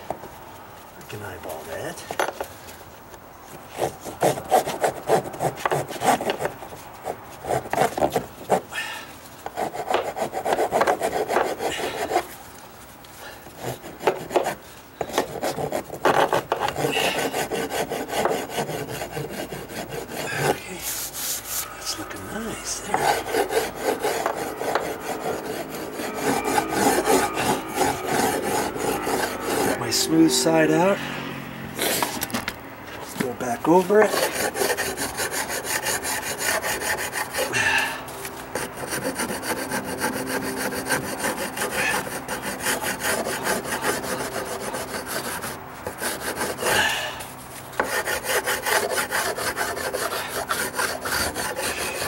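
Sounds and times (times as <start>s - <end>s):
hand rasp scraping wood: 3.6s - 31.0s, 31.8s - 52.0s.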